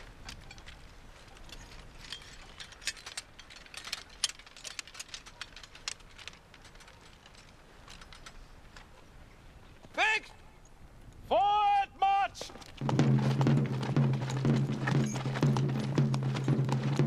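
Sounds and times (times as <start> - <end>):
muskets and kit clicking and rattling: 0.0 - 9.9, 12.4 - 17.0.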